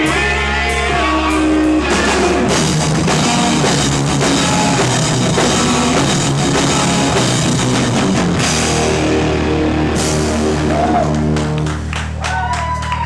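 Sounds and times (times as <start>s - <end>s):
live rock band playing: 0.0s - 12.2s.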